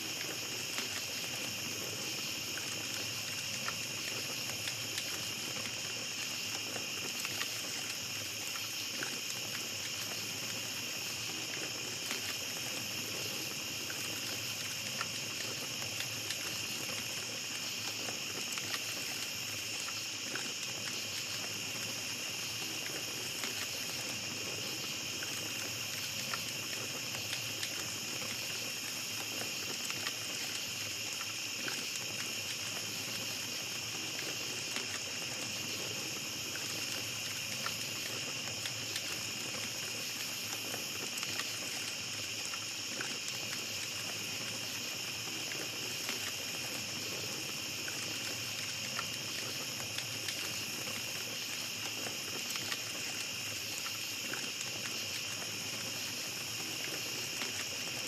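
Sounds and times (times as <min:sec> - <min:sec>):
campfire crackling: 0:00.0 - 0:58.0
night insects trilling: 0:00.0 - 0:58.0.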